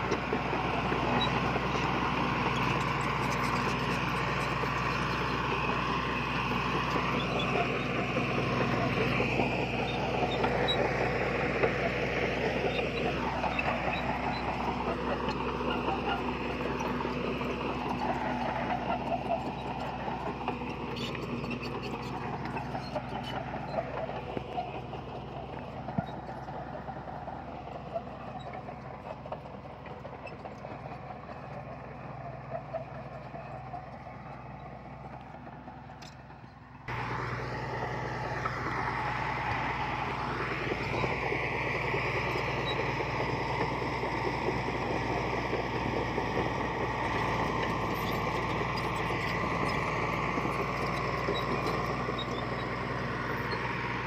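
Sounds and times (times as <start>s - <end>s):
diesel engine of heavy machinery: 0.0s - 54.0s.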